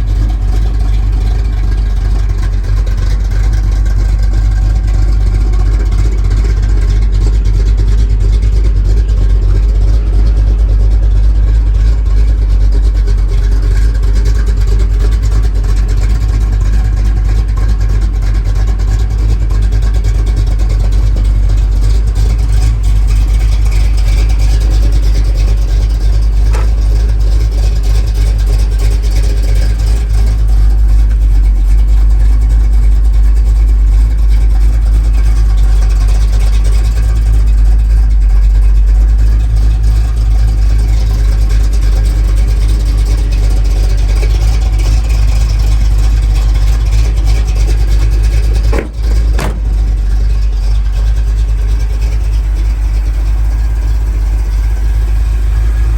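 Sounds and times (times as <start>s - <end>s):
pickup engine rumbling: 0.0s - 55.9s.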